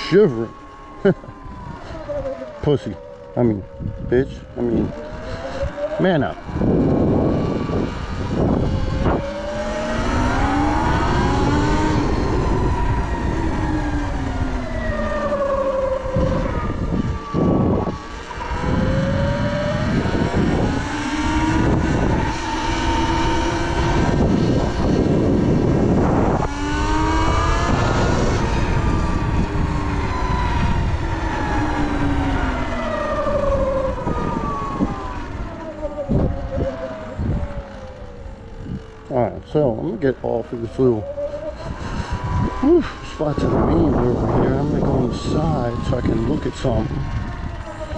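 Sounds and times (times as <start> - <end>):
electric dirt bike motor whining: 0.0 - 47.9
wind rumble on microphone: 0.0 - 47.9.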